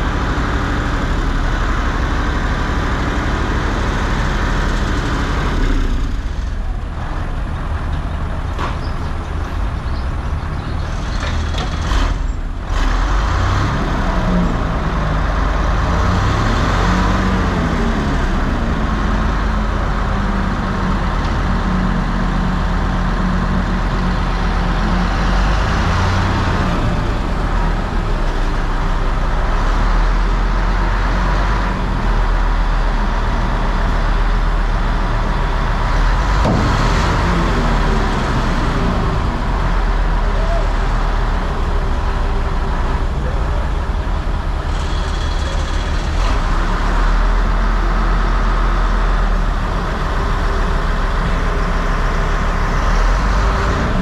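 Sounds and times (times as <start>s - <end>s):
heavy engine droning: 0.0s - 54.0s.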